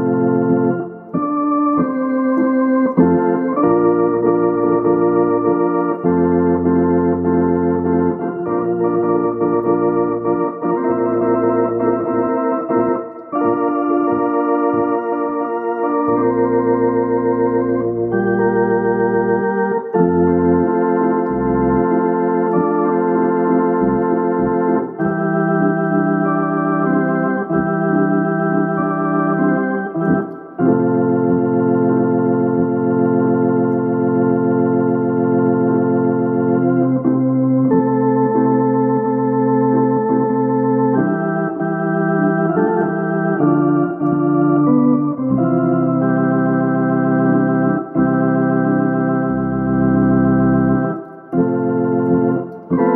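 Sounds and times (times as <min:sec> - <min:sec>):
organ playing held chords: 0:00.0 - 0:52.9.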